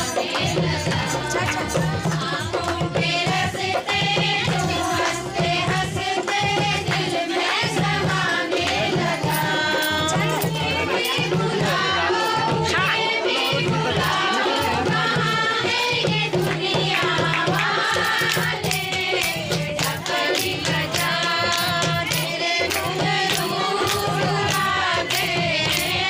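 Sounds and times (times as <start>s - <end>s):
singing: 0.0s - 26.0s
steady drum beat: 0.0s - 26.0s.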